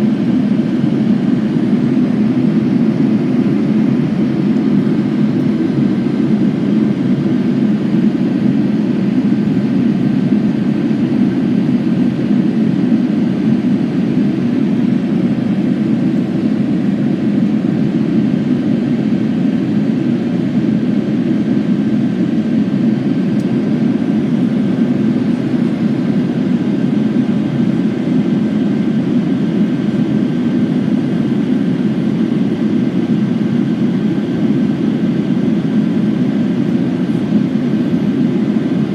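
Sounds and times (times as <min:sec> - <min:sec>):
airliner engines and airflow rush: 0:00.0 - 0:38.9.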